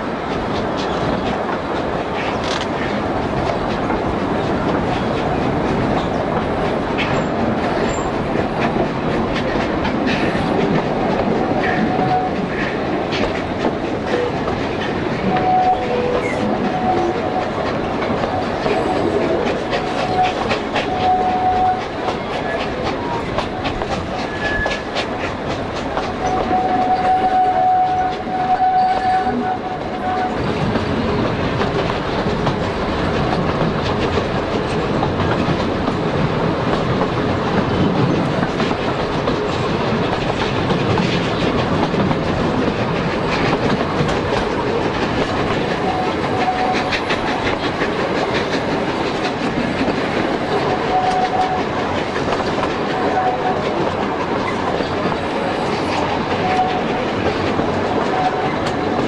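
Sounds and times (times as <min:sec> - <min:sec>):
wheels clickety-clack over rail joints: 0:00.0 - 0:59.0.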